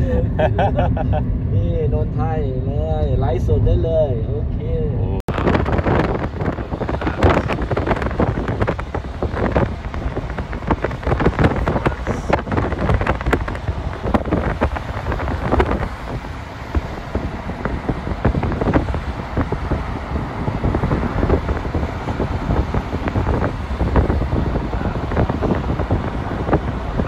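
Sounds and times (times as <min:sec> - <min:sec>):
road noise rushing: 0:00.0 - 0:27.0
wind gusting against microphone: 0:00.0 - 0:27.0.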